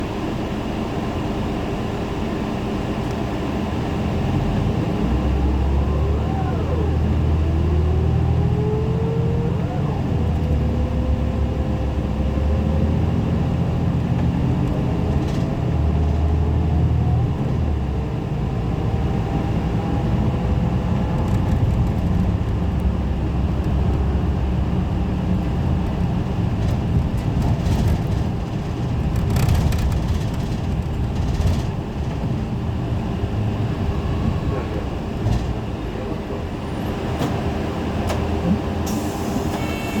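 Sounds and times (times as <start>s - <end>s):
bus diesel engine rumbling: 0.0s - 40.0s.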